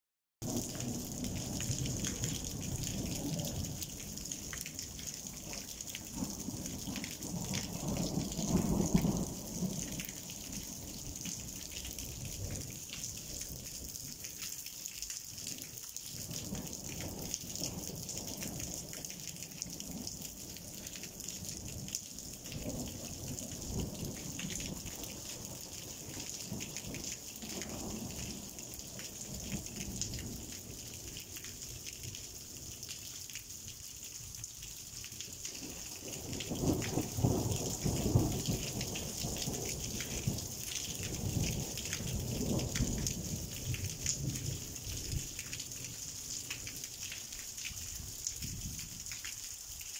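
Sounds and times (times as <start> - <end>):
rain falling: 0.4 - 49.9.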